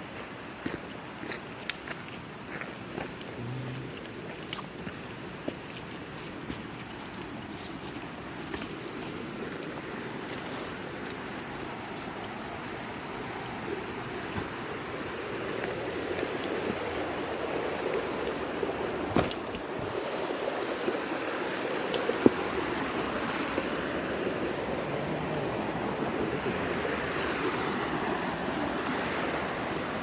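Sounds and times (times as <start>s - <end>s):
mountain stream rushing: 0.0s - 30.0s.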